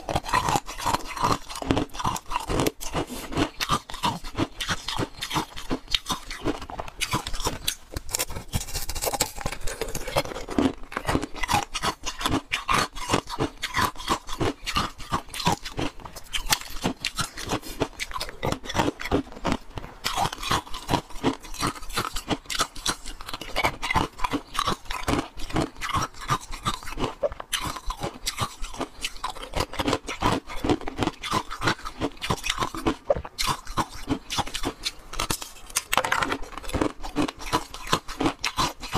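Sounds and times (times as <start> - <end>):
ice being chewed crunching: 0.0 - 38.9.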